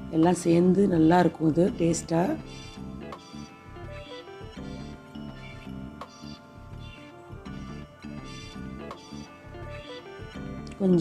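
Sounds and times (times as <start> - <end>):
quiet melodic background music: 0.0 - 11.0.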